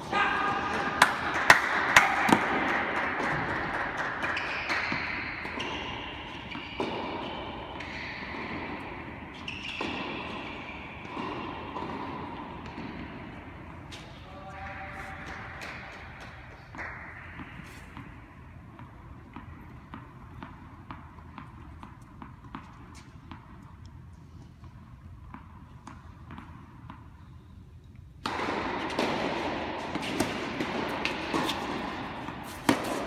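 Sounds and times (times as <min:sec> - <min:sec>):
tennis ball hit by racket: 0:00.6 - 0:14.1, 0:15.1 - 0:23.8, 0:28.2 - 0:33.0.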